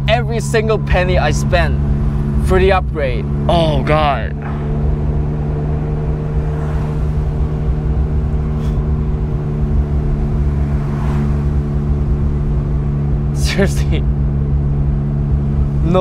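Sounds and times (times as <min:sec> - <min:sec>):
car engine cruising: 0:00.0 - 0:16.0.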